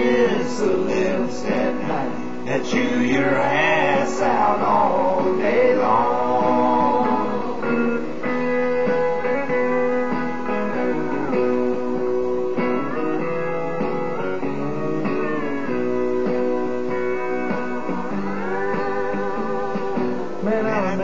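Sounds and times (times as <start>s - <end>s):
country guitars playing: 0.0s - 21.0s.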